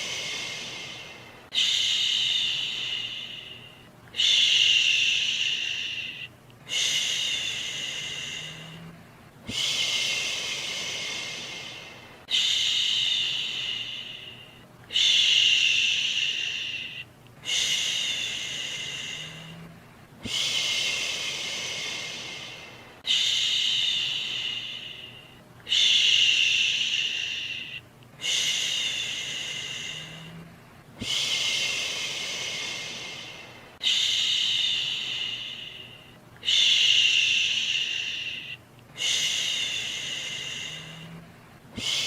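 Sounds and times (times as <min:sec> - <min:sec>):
person shushing: 0:00.0 - 0:42.0.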